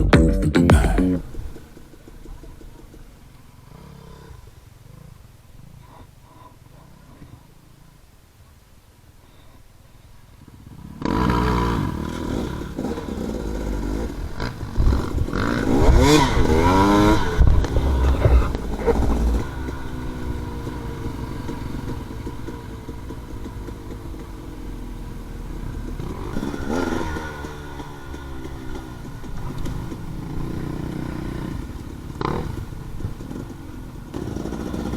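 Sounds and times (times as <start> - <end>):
dirt bike engine revving: 0.0 - 5.8, 10.8 - 34.9.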